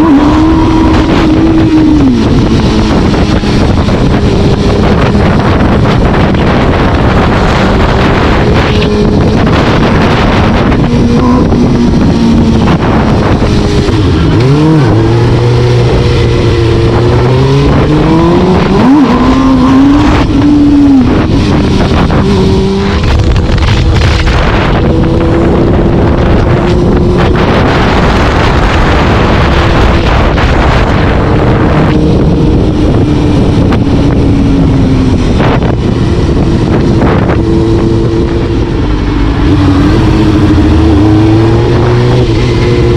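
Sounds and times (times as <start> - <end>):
vehicle engine accelerating: 0.0 - 42.9
wind on microphone: 0.0 - 42.9.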